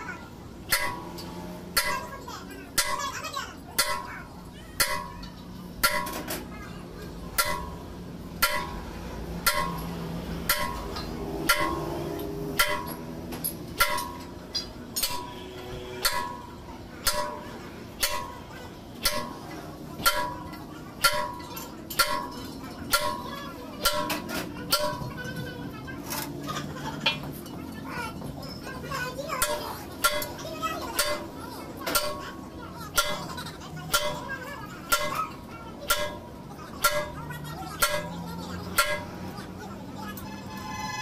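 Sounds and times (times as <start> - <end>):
hammer striking steel: 0.6 - 6.5, 7.3 - 25.3, 29.3 - 39.5.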